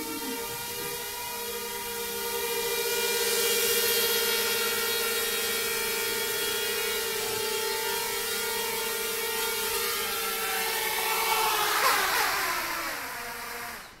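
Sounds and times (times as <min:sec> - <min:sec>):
drone propellers buzzing: 0:00.0 - 0:14.0
motors spinning down whine: 0:00.0 - 0:14.0.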